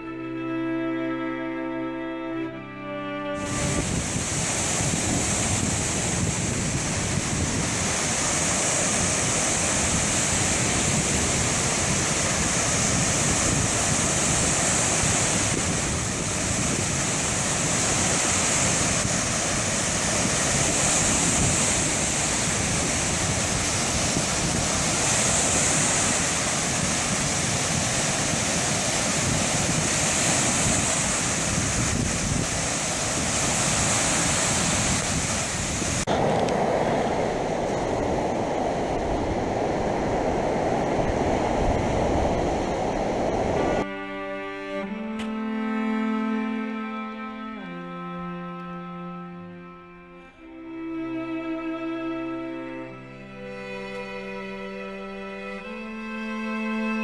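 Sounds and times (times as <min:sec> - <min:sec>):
ocean surf washing in: 0:00.0 - 0:57.0
wind buffeting microphone: 0:03.3 - 0:57.0.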